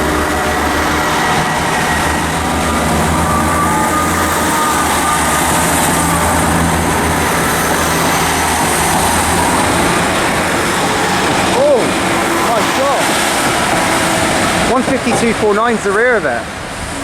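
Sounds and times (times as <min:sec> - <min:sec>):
faint steady tones: 0:00.0 - 0:17.0
train engines rumbling: 0:00.0 - 0:17.0.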